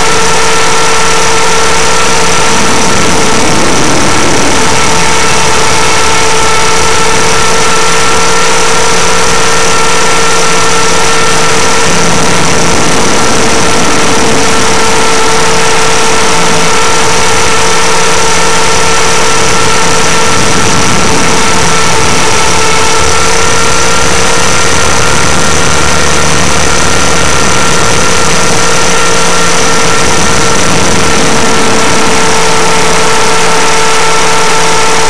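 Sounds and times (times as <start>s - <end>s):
electric motor whine: 0.0s - 35.0s
rotor rushing noise: 0.0s - 35.0s.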